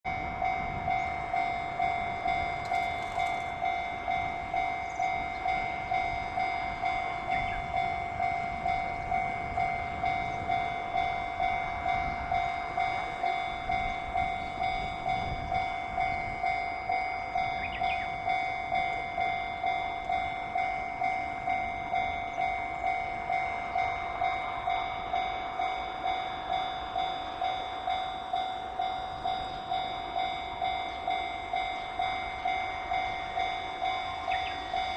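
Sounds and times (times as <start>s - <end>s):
level crossing alarm ringing: 0.0s - 34.9s.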